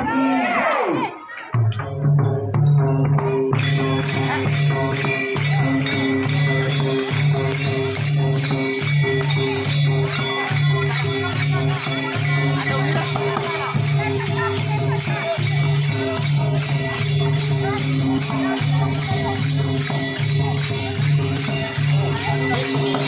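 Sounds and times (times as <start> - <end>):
jingling metal percussion: 0.4 - 23.0
barrel drum beat: 1.6 - 23.0.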